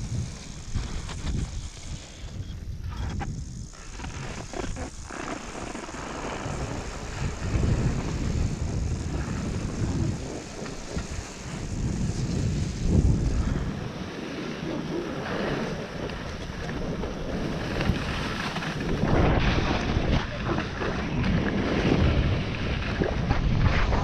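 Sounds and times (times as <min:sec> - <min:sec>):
skis scraping over snow: 0:00.0 - 0:24.0
wind buffeting microphone: 0:00.0 - 0:24.0.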